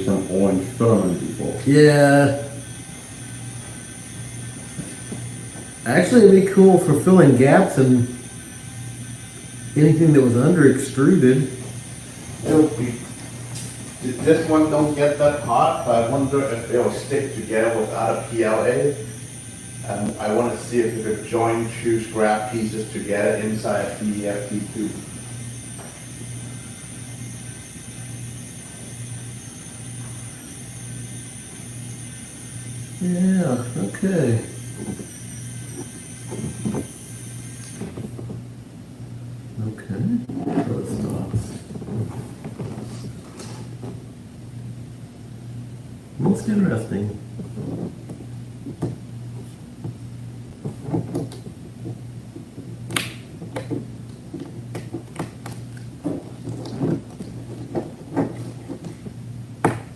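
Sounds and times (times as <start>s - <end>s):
motor hum with high whine: 0.0s - 59.9s.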